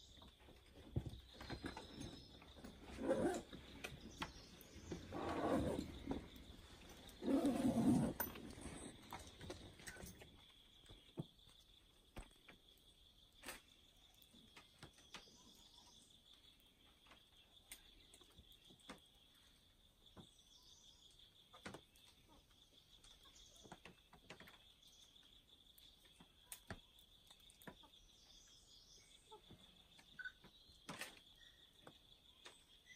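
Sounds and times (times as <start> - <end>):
soft bird chirps: 0.0 - 32.9.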